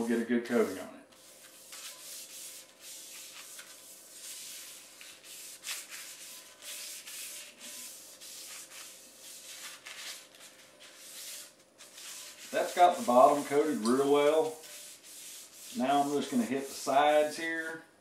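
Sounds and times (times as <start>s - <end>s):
scratchy wiping on cast iron: 0.5s - 17.3s.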